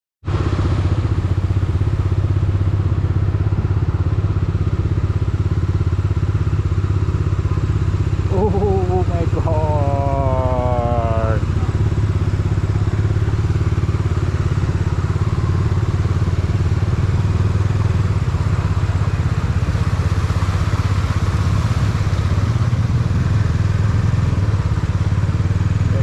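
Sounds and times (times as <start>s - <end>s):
motorcycle engine running: 0.2s - 26.0s
road traffic: 0.2s - 26.0s.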